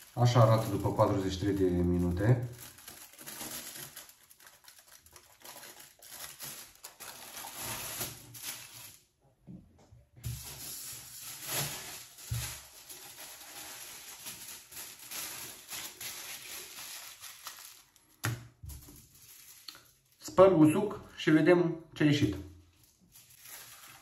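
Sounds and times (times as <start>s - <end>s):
rustling and crinkling handling: 0.0s - 20.3s, 22.6s - 24.0s.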